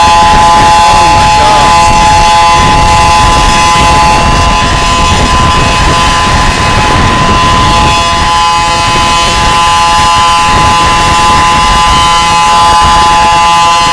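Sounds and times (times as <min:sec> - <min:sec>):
warning siren chord: 0:00.0 - 0:13.9
wind rumble on microphone: 0:00.0 - 0:13.9.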